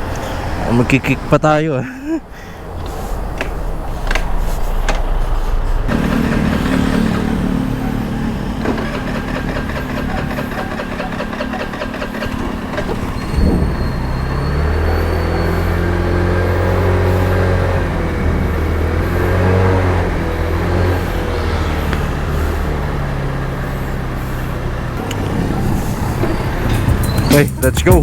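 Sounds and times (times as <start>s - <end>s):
scooter engine running: 2.5s - 28.0s
scooter kick-start: 2.6s - 28.0s.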